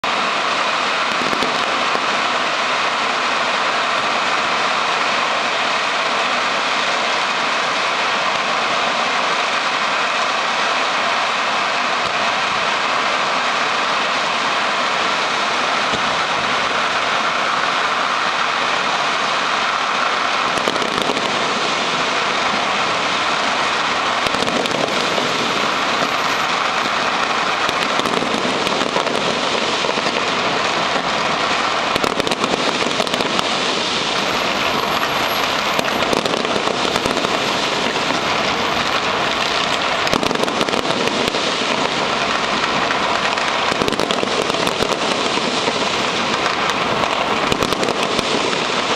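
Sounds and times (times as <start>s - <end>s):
firecrackers crackling pops: 0.0s - 48.9s.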